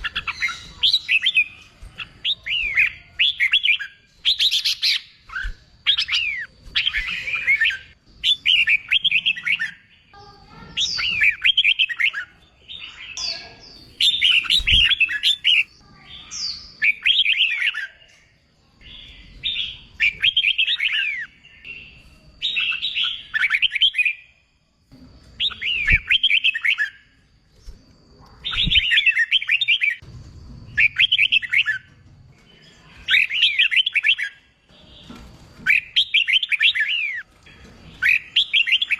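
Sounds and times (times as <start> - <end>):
bird singing warbled phrases: 0.0 - 24.6, 25.3 - 30.1, 30.7 - 38.9.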